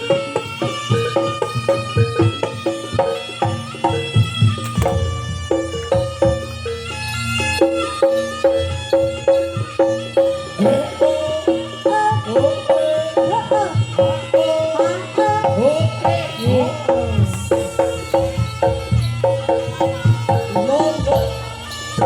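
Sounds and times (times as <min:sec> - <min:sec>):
hand drums: 0:00.0 - 0:22.0
tuned metal percussion: 0:00.0 - 0:22.0.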